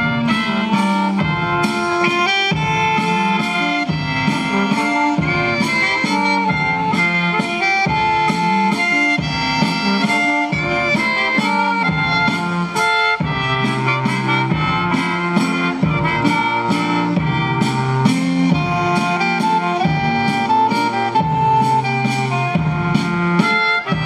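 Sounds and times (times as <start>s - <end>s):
folk dance music over loudspeaker: 0.0s - 24.0s.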